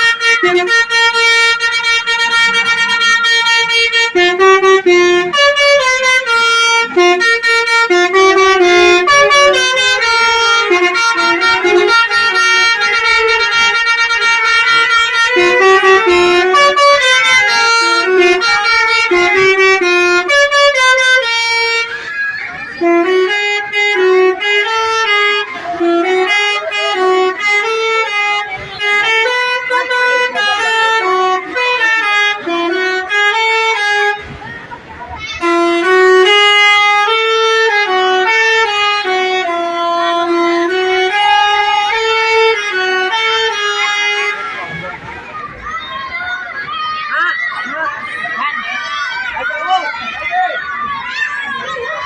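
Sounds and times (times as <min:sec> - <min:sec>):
musical vehicle horn tune: 0:00.0 - 0:45.1.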